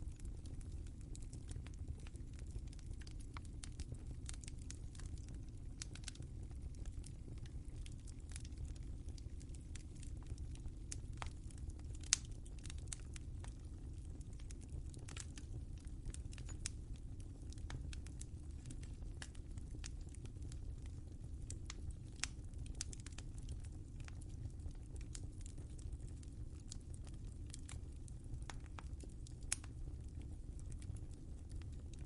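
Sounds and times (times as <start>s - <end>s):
low rumble of flames: 0.0s - 32.0s
wood fire pops and snaps: 0.1s - 32.0s.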